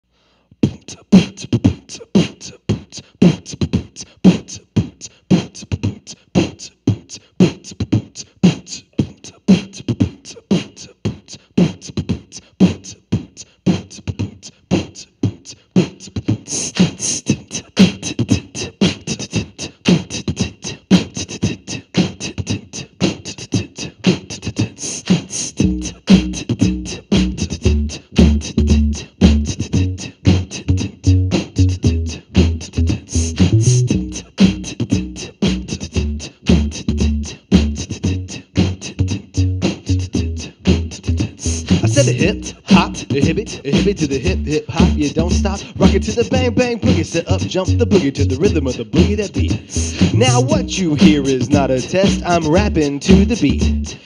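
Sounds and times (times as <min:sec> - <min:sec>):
beatboxing: 0:00.3 - 0:54.0.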